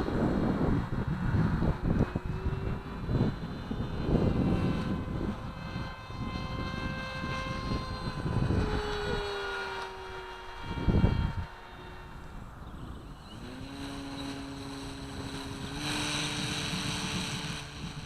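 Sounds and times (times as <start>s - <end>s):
model plane engine running: 0.0s - 18.0s
wind buffeting microphone: 0.0s - 18.0s.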